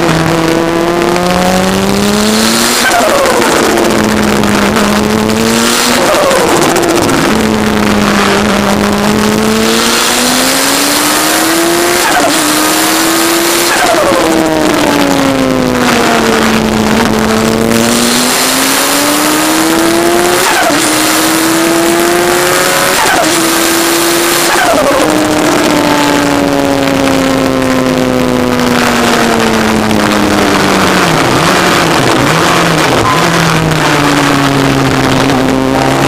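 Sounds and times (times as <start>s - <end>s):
motorcycle engine revving: 0.0s - 36.0s
wind rushing over microphone: 0.0s - 36.0s.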